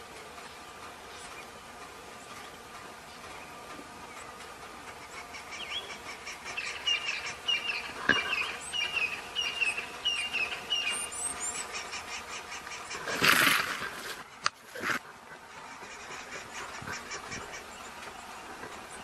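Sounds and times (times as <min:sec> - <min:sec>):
bird calling: 0:00.0 - 0:19.0
faint steady hum: 0:00.0 - 0:19.0.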